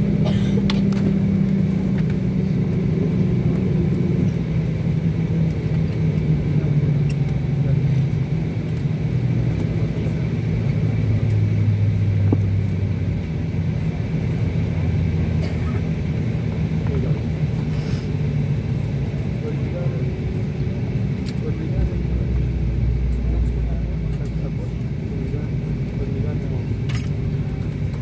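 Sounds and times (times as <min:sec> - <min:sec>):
airliner engine drone in cabin: 0:00.0 - 0:28.0.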